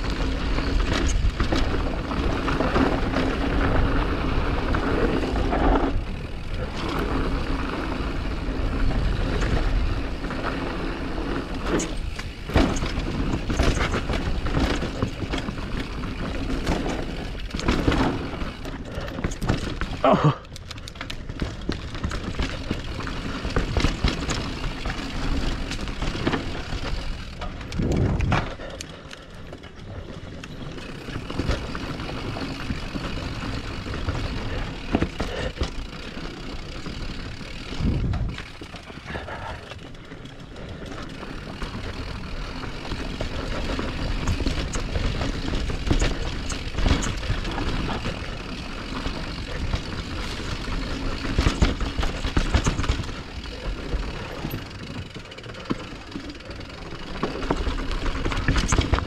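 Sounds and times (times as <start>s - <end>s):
bike frame and chain rattling: 0.0s - 59.0s
wind and tyre noise: 0.0s - 59.0s.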